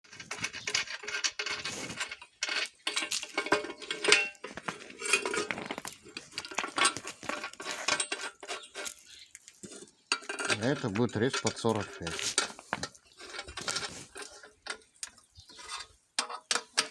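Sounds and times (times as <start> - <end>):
metal parts clinking: 0.1 - 15.2.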